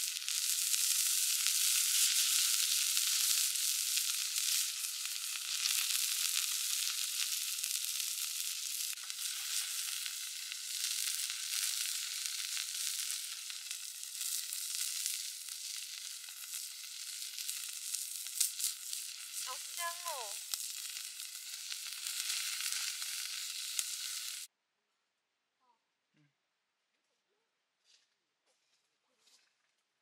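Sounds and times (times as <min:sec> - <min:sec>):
food frying in oil: 0:00.0 - 0:24.5.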